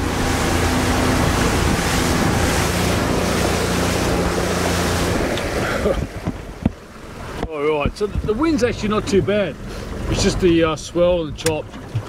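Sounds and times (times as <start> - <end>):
boat motor running: 0.0 - 12.0
rushing water: 0.0 - 12.0
wind buffeting microphone: 0.0 - 12.0.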